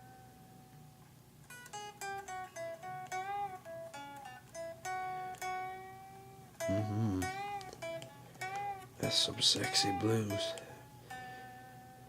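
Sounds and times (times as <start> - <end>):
blues guitar lead line: 1.5 - 12.0.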